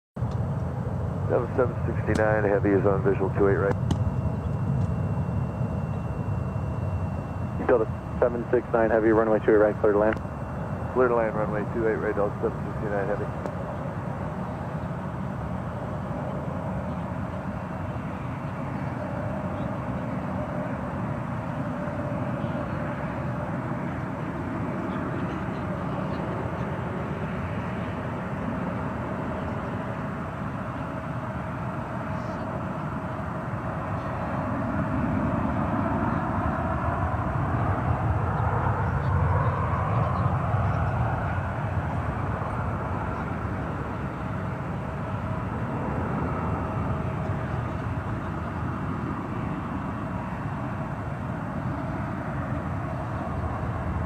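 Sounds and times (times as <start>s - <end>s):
jet airliner engine rumble: 0.2s - 54.0s
jet engine whine: 0.2s - 54.0s.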